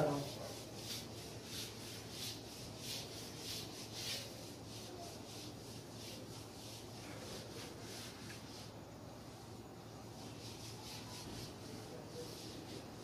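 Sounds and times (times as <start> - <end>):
eraser rubbing on whiteboard: 0.0 - 13.0.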